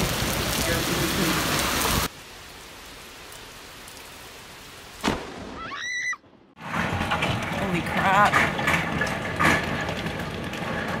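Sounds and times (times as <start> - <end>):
heavy rain splashing on street: 0.0 - 6.0, 6.6 - 11.0.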